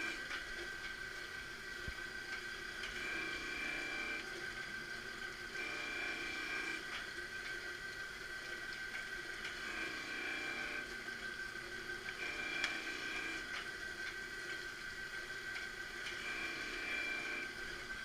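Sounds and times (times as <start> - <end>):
grinder motor whine: 0.0 - 0.8, 1.4 - 8.4, 9.2 - 13.9, 14.8 - 18.0.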